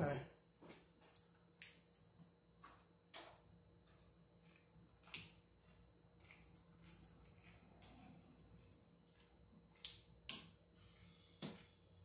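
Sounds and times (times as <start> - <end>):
wires clicking and rustling: 0.6 - 12.0.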